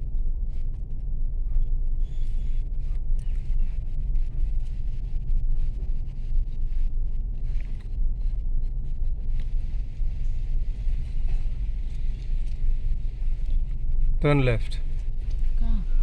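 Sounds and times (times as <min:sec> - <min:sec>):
road rumble: 0:00.0 - 0:16.0.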